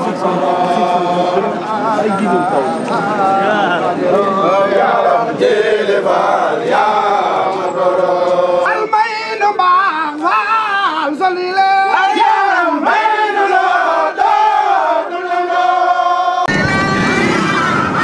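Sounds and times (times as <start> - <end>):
men chanting in unison: 0.0 - 16.5.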